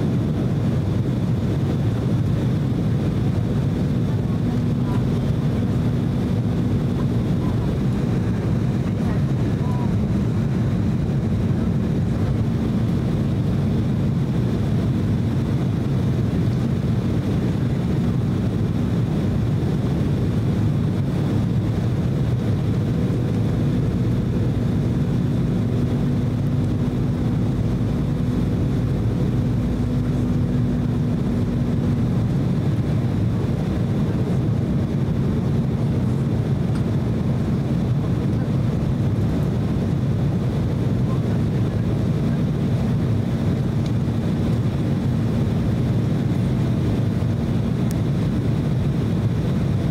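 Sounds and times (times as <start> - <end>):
airliner cabin engine roar: 0.0 - 49.9.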